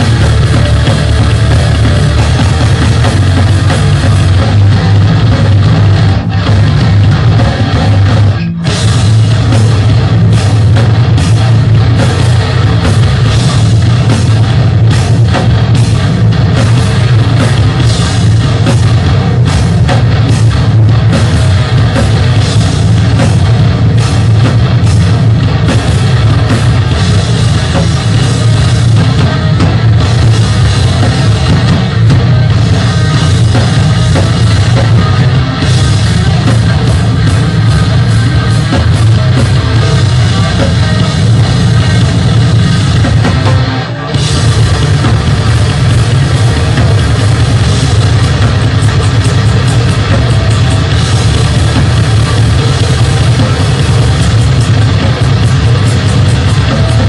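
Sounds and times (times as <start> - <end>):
metal band playing live: 0.0 - 57.0.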